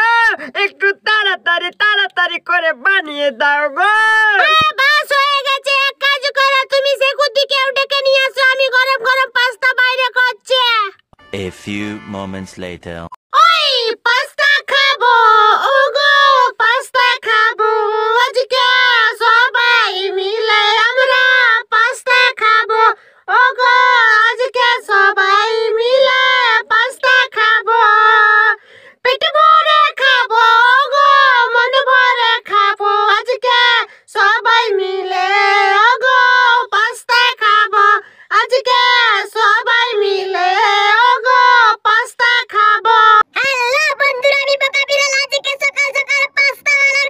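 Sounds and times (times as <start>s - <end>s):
high-pitched voice singing: 3.0s - 32.6s, 34.2s - 47.0s.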